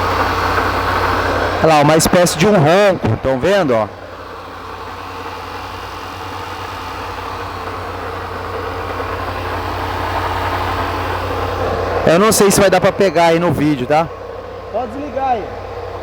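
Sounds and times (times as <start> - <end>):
bearing drone: 0.0 - 16.0
car engine idling: 0.0 - 16.0.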